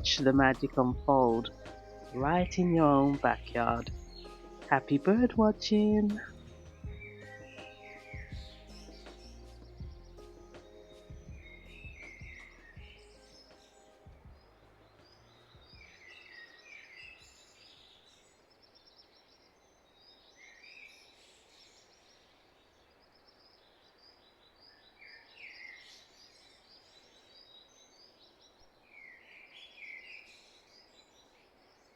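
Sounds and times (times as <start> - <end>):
small birds chirping: 0.0 - 31.9
soft outdoor hiss: 0.0 - 31.9.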